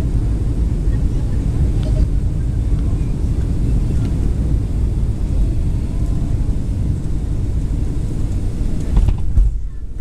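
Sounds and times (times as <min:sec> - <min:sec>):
airplane engines rumbling: 0:00.0 - 0:10.0.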